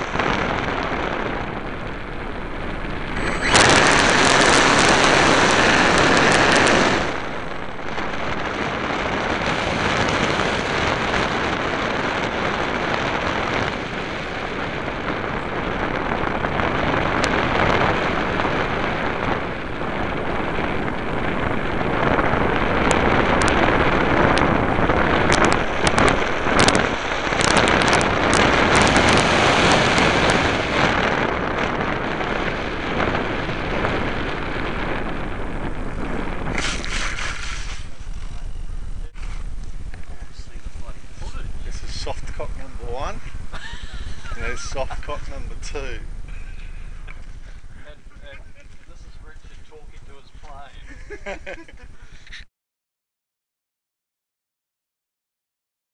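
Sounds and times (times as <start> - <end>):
crackles: 0.0 - 52.5
wind rushing on microphone: 0.0 - 52.5.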